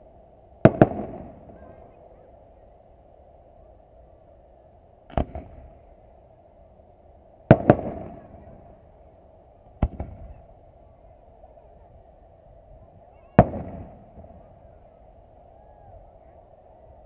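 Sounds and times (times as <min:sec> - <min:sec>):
firework shells bursting: 0:00.2 - 0:17.0.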